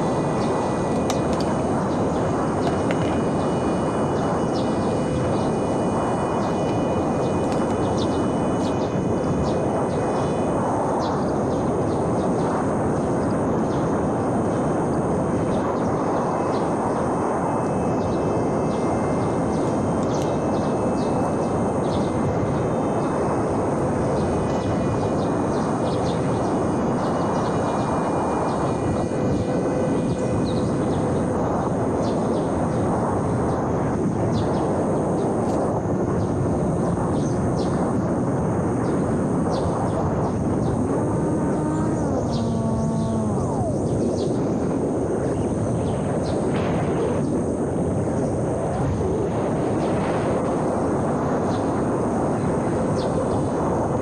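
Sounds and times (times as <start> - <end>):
faint electric motor whine: 0.0 - 54.0
wind rushing over microphone: 0.0 - 54.0.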